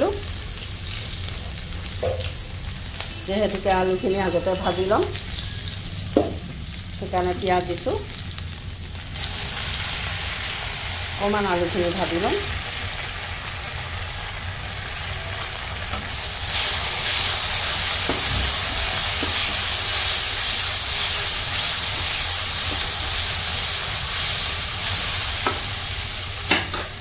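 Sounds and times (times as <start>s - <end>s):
potatoes sizzling in hot oil: 0.0s - 27.0s.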